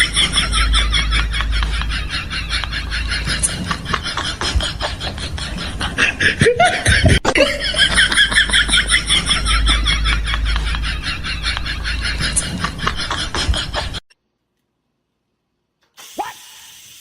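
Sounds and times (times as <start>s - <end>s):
person laughing: 0.0s - 14.0s.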